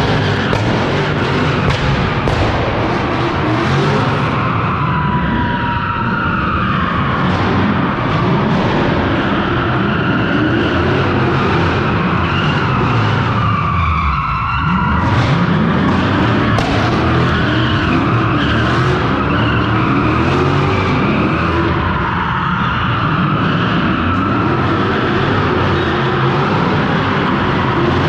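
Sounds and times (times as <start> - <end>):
car engine revving: 0.0 - 13.8, 14.4 - 28.0.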